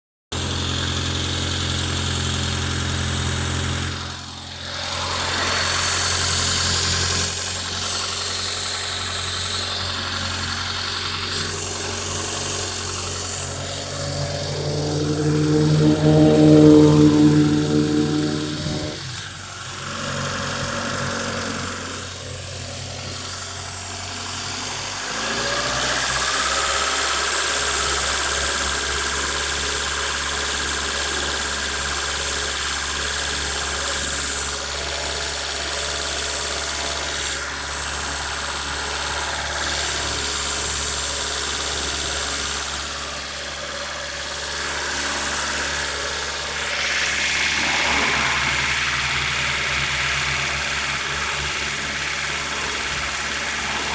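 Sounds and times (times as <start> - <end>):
car engine idling: 0.3 - 53.9.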